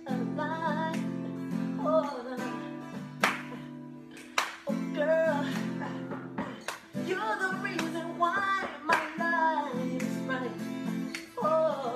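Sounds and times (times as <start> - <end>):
young man singing wordless notes: 0.0 - 3.1, 4.6 - 11.9.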